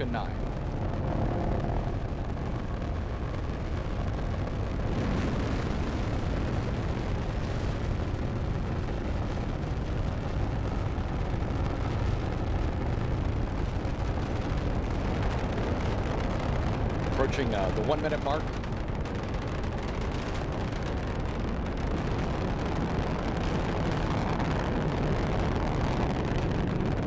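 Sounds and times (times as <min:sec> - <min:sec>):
rocket engines roaring: 0:00.0 - 0:27.0.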